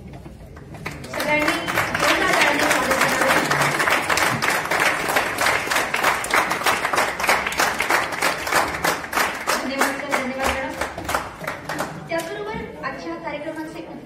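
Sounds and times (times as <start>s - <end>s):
audience applauding: 0.6s - 12.1s.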